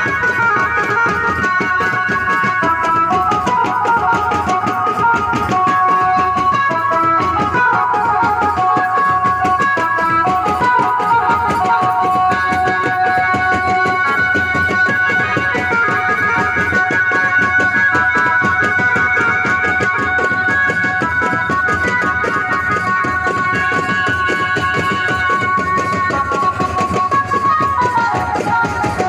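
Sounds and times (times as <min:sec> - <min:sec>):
fast drumming: 0:00.0 - 0:29.0
keyboard melody over loudspeakers: 0:00.0 - 0:29.0.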